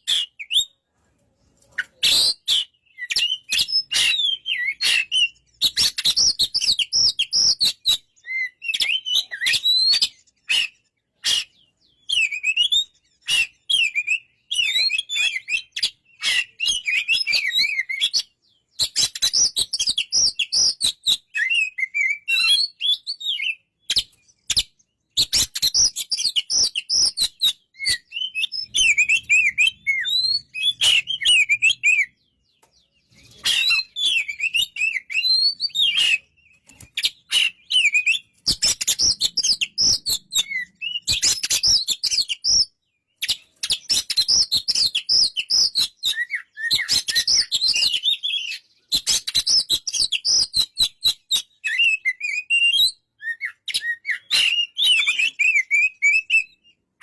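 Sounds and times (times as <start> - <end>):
bird singing whistled phrases: 0.0 - 0.8, 1.8 - 56.8.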